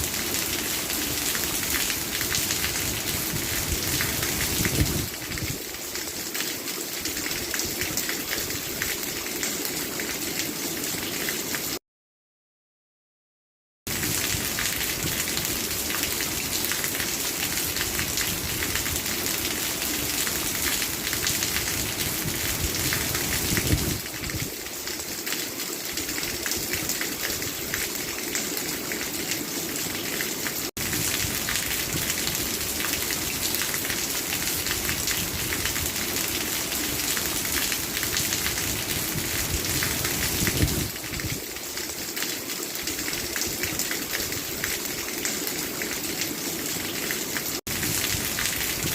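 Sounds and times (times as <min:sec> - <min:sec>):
steady rain falling: 0:00.0 - 0:11.8, 0:13.9 - 0:48.9.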